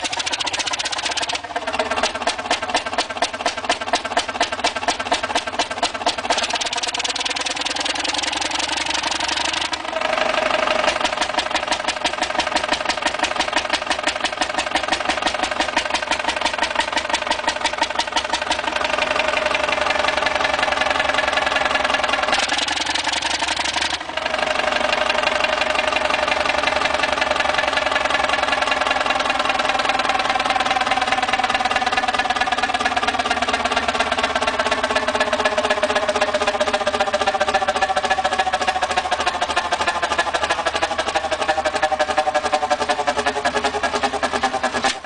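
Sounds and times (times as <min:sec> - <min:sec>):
large engine running: 0:00.0 - 0:45.0.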